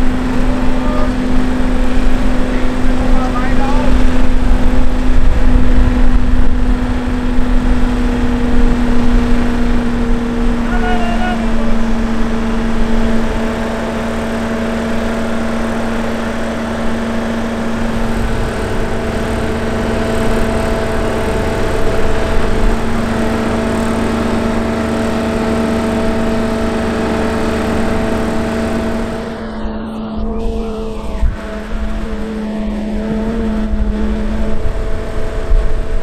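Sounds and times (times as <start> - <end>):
crane engine running: 0.0 - 36.0.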